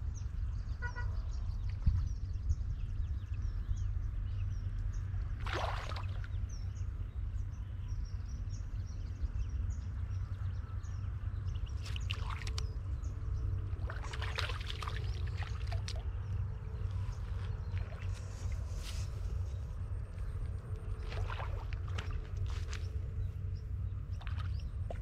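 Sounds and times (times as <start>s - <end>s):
wind rumble on microphone: 0.0s - 25.0s
birds chirping: 0.1s - 25.0s.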